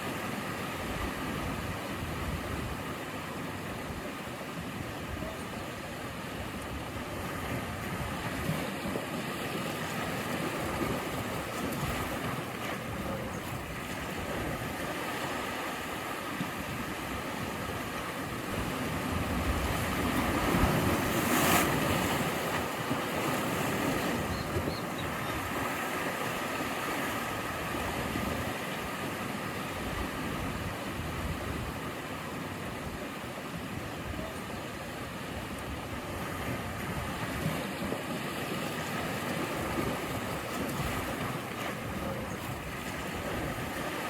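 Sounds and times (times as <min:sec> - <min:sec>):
ocean surf: 0:00.0 - 0:44.0.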